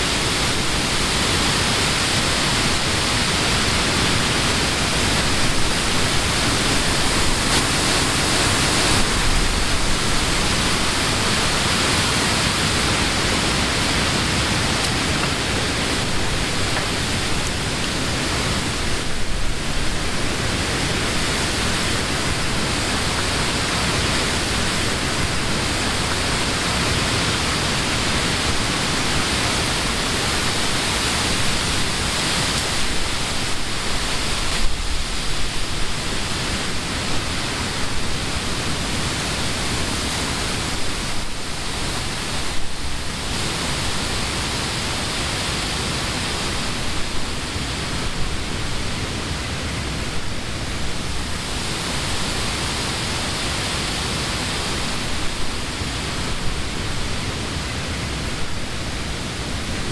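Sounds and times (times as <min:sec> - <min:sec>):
wind rustling leaves: 0:00.0 - 0:59.9.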